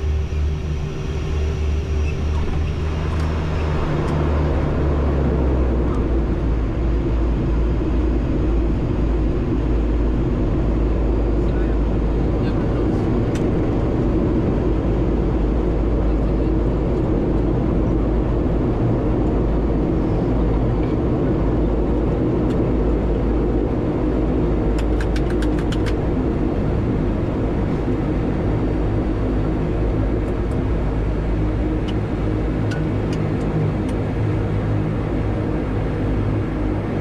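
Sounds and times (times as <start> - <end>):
low rumble: 0.0 - 37.0
propeller aircraft engines: 0.0 - 37.0.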